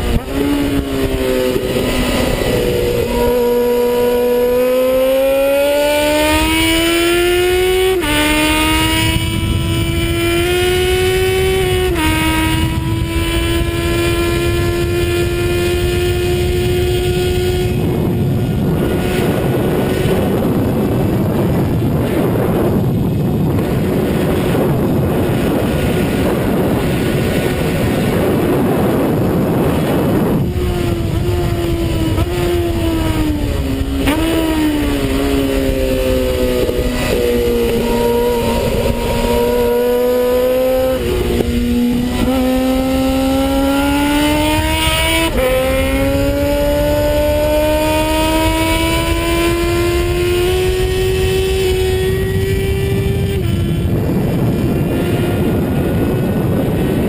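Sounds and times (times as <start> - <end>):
motorcycle engine accelerating: 0.0 - 57.0
wind rush over microphone: 0.0 - 57.0.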